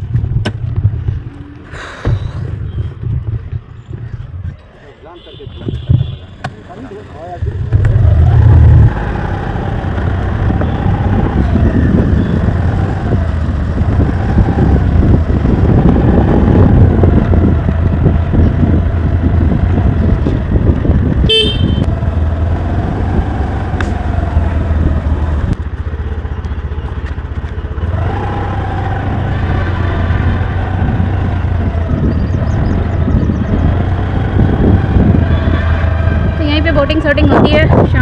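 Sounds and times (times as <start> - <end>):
wind rushing over microphone: 0.0 - 4.6, 7.6 - 25.6, 27.9 - 38.0
motor scooter running: 7.5 - 38.0.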